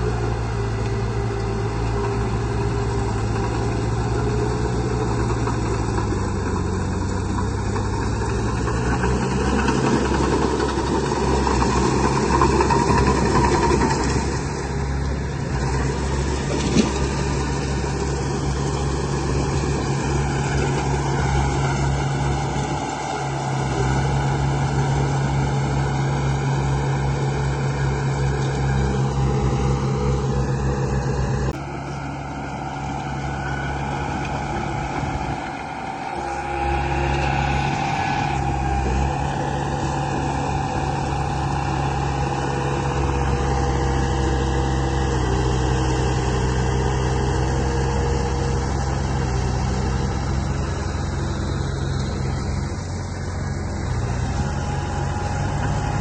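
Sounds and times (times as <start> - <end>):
earth-moving machine engine: 0.0 - 56.0.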